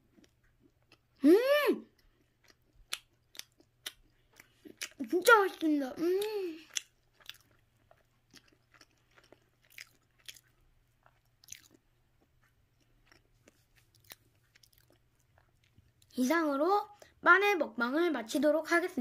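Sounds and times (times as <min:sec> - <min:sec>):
person chewing: 0:00.0 - 0:01.2, 0:01.8 - 0:16.2.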